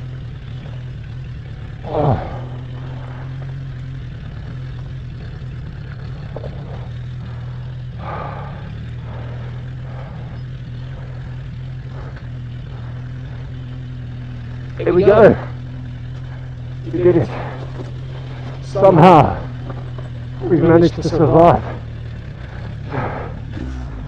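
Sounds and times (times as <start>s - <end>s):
motorcycle engine idling steadily: 0.0s - 24.0s.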